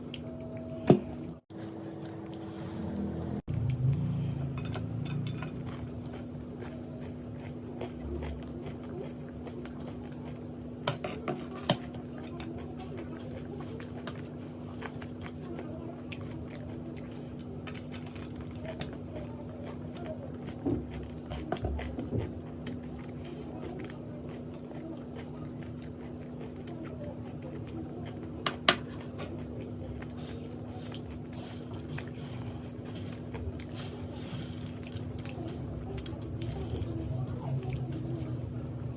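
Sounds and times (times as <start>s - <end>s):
steady low hum: 0.0s - 38.9s
chewing and crunching snacks: 1.4s - 38.9s.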